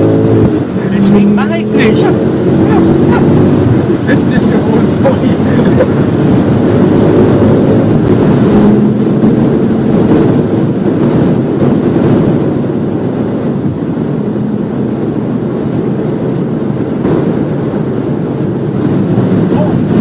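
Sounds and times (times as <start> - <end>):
car engine accelerating hard: 0.0 - 20.0
wind and road noise: 0.0 - 20.0.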